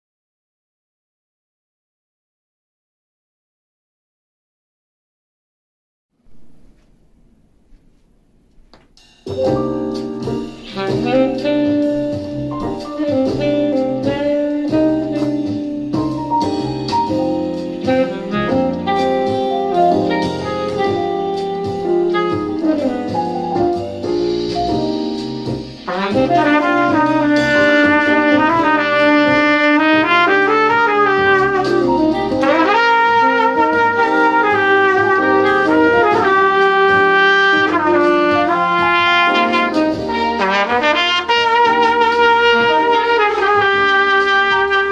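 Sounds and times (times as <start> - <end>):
piano backing: 6.2 - 44.9
jazz trumpet improvising: 6.3 - 44.9.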